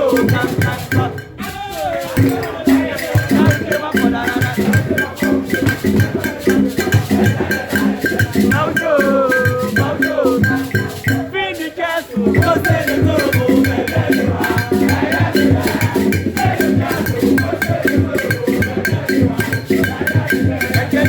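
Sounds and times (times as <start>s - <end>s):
music over sound system: 0.0s - 21.0s.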